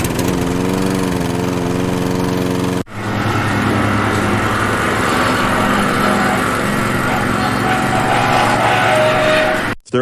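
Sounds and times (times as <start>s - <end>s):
lawnmower engine running: 0.0s - 9.8s.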